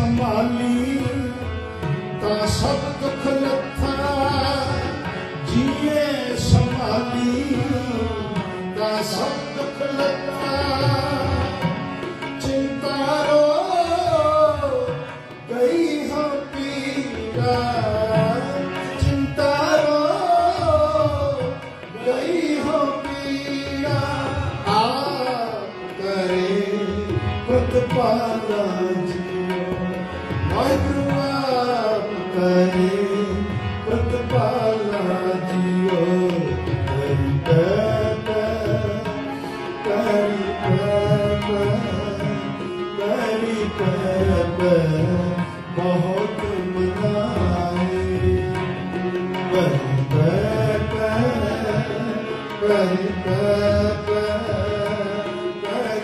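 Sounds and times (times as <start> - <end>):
harmonium: 0.0 - 56.0
tabla drumming: 0.0 - 56.0.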